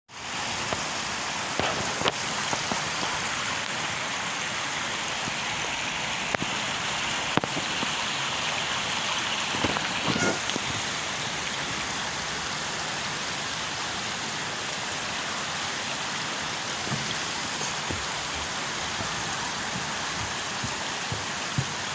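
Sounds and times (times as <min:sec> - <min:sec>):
waterfall rushing: 0:00.1 - 0:21.9.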